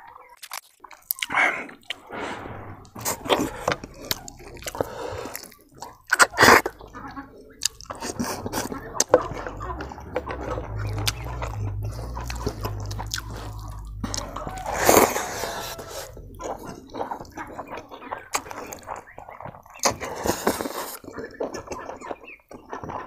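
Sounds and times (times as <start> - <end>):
wet chewing and lip-smacking: 0.3 - 2.0, 3.2 - 23.0.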